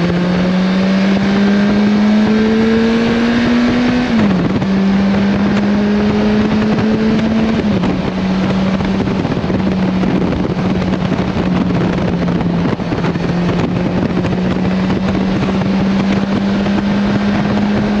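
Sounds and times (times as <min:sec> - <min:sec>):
motorcycle engine running: 0:00.0 - 0:18.0
wind rush over microphone: 0:00.0 - 0:18.0.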